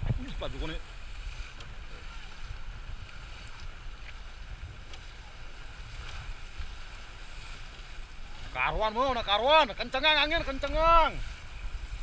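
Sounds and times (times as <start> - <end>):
water hissing around boats: 0.0 - 12.0
wind buffeting microphone: 0.0 - 12.0.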